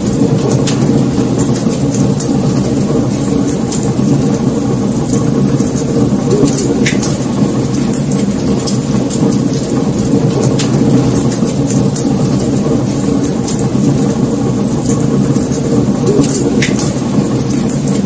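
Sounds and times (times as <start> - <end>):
burning logs crackling and popping: 0.0 - 18.0
low rumble of flames: 0.0 - 18.0.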